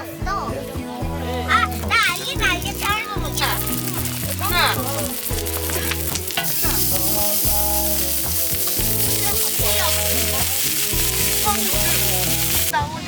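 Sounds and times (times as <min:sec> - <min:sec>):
food sizzling in a pan: 0:01.6 - 0:12.8.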